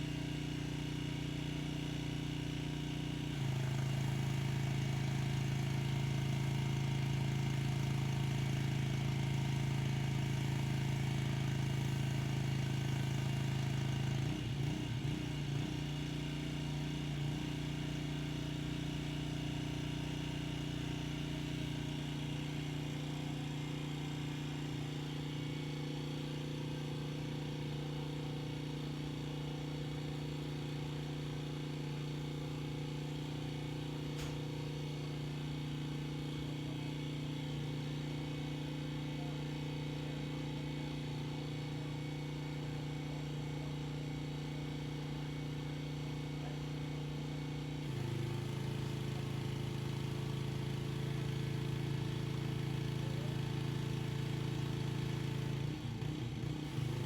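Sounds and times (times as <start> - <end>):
pressure washer engine running: 3.4 - 42.2, 42.8 - 57.0.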